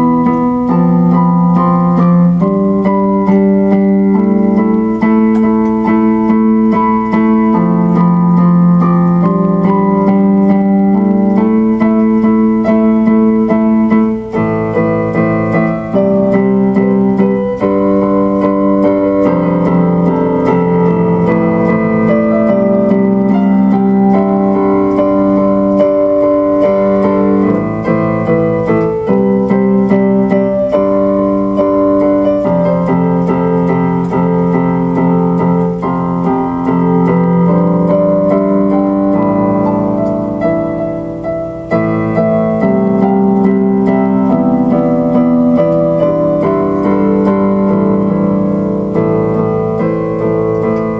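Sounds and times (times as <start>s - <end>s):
electric piano chords: 0.0s - 50.9s.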